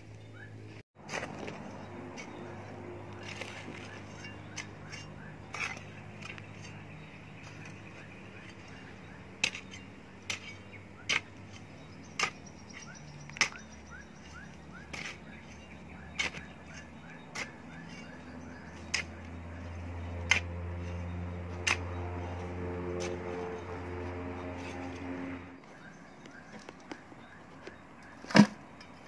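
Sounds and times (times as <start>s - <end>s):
garden hoe chopping soil: 1.0s - 25.1s, 28.2s - 28.6s.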